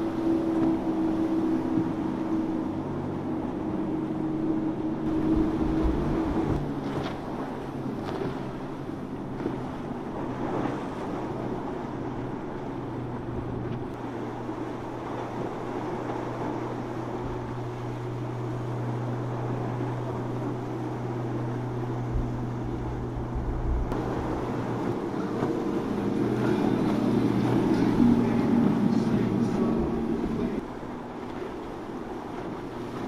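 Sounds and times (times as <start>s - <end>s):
motorboat engine drone: 0.0s - 33.0s
wind and water hiss: 0.0s - 33.0s.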